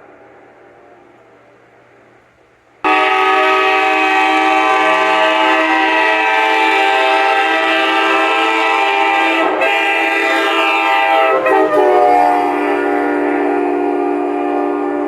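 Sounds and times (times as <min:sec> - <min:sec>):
train air horn chord: 0:02.8 - 0:15.0.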